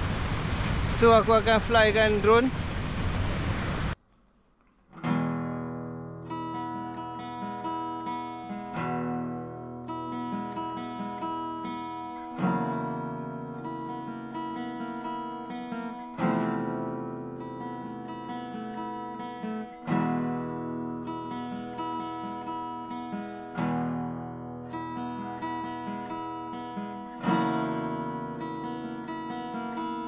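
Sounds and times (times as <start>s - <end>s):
acoustic guitar music: 4.8s - 30.0s.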